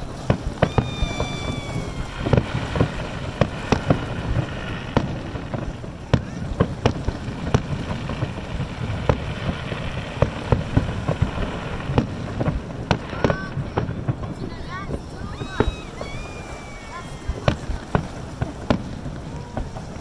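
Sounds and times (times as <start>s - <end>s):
falling firework whistle: 0.0s - 13.6s, 14.8s - 20.0s
fireworks bangs and pops: 0.0s - 20.0s.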